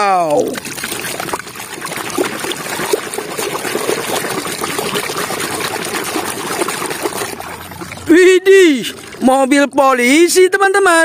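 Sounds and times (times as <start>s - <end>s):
wet sloshing in muddy water: 0.0s - 9.6s.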